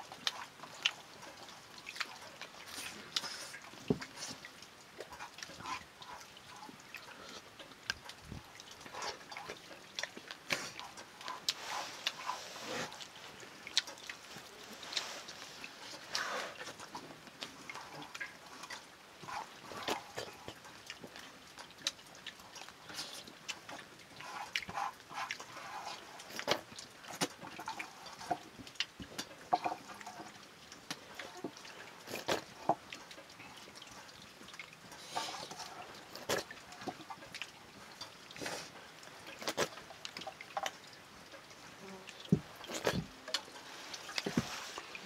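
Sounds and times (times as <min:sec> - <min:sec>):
animal sounds: 0:00.0 - 0:45.0.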